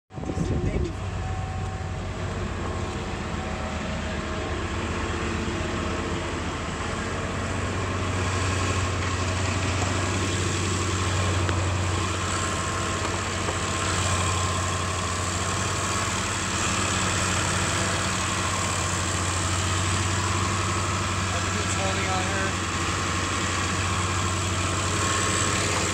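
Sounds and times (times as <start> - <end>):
bus engine idling: 0.1 - 25.9.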